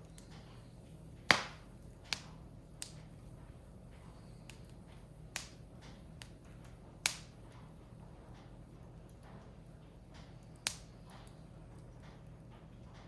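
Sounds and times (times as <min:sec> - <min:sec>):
firewood crackling and popping: 0:00.0 - 0:12.2.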